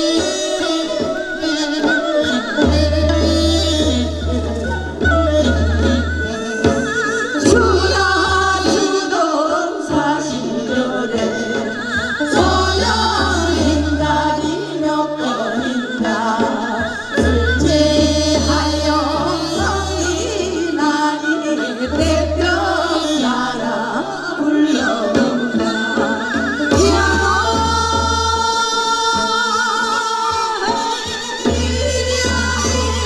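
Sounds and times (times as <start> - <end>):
women singing folk songs: 0.0 - 33.0.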